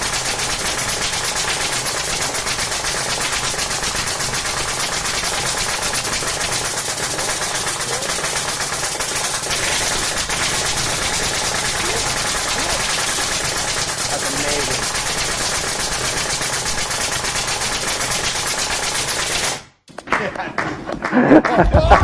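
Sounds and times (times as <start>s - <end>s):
machine clattering: 0.0s - 19.6s.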